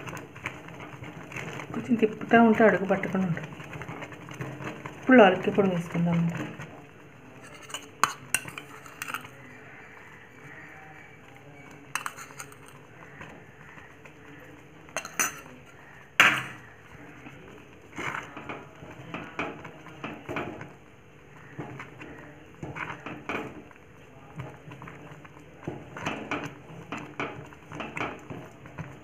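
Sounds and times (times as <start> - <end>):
thick food simmering: 0.0 - 29.0
wooden spatula scraping pot: 0.0 - 29.0.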